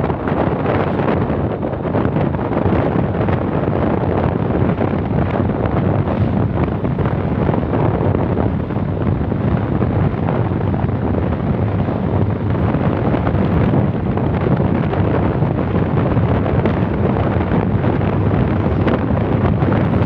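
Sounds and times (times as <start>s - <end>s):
vehicle road and engine noise: 0.0s - 20.0s
wind buffeting microphone: 0.0s - 20.0s.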